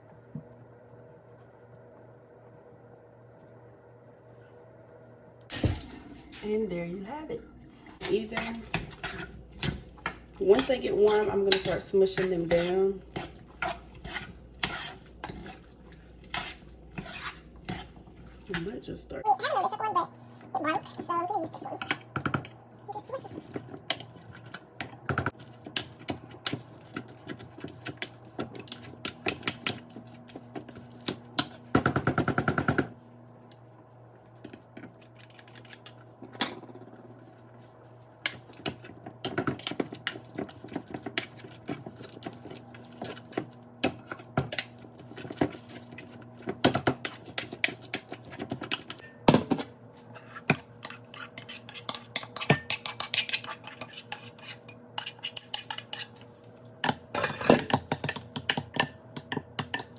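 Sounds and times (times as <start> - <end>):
steady low hum: 0.0 - 59.9
utensils clicking and scraping on pans: 8.0 - 32.9, 34.3 - 59.9.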